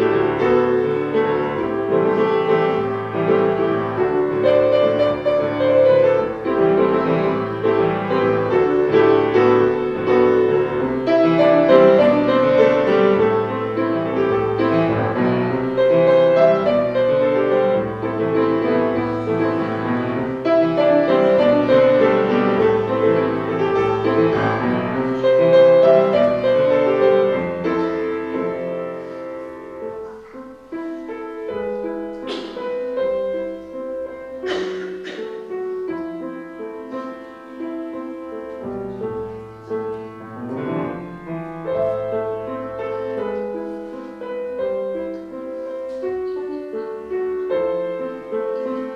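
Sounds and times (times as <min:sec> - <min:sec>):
classical piano piece: 0:00.0 - 0:48.9.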